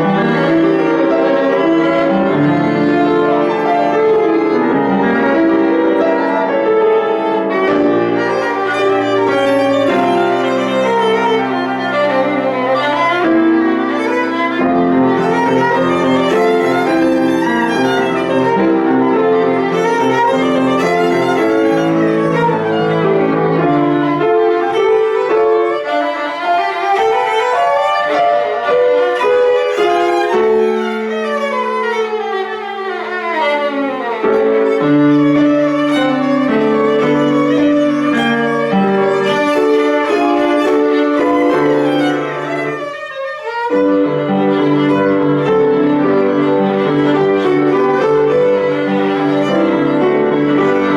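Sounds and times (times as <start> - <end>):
piano accompaniment: 0.0 - 50.9
violin playing quick runs: 7.0 - 50.9.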